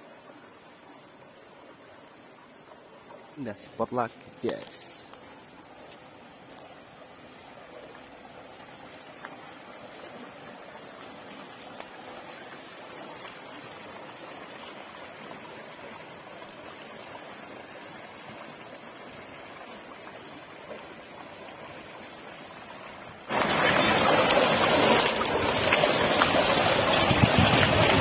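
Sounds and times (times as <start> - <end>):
stream running over stones: 0.0 - 28.0.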